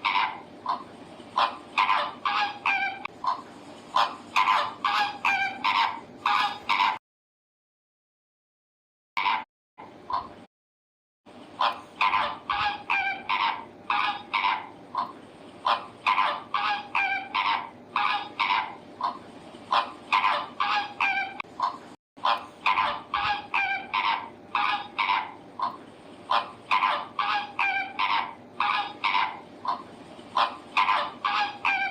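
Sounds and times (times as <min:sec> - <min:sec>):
birds honking: 0:00.0 - 0:07.0, 0:11.6 - 0:31.9.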